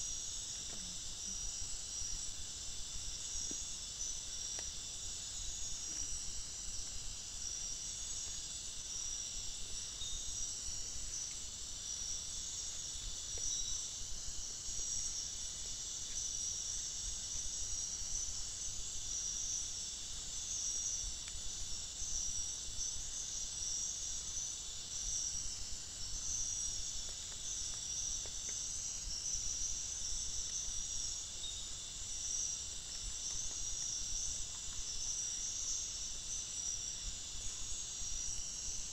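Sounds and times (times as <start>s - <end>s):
night insects chorus: 0.0s - 38.9s.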